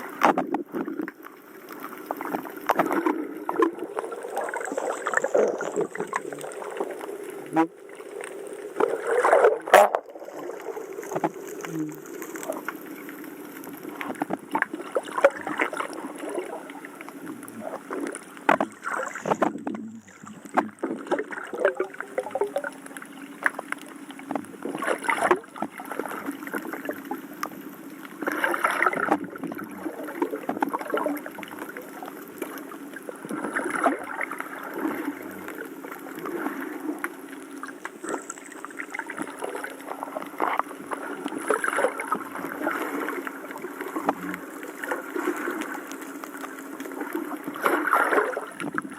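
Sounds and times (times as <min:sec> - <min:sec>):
seawater sloshing and gurgling: 0:00.0 - 0:48.9.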